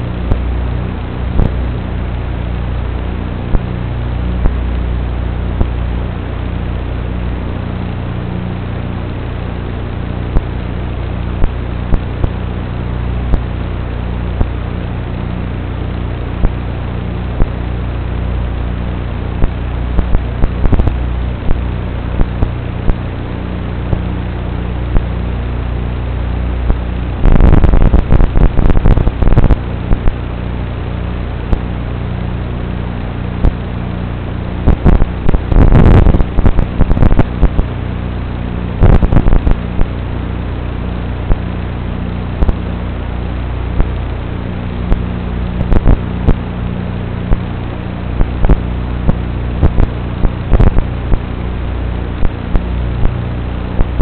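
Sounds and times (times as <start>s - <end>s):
buzzing hum and hiss: 0.0s - 54.0s
loud crackling bursts: 0.0s - 54.0s.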